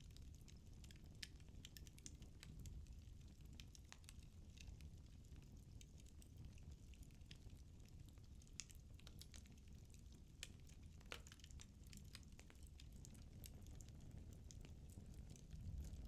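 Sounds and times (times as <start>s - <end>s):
low rumble of flames: 0.0s - 16.0s
firewood crackling and popping: 0.1s - 16.0s.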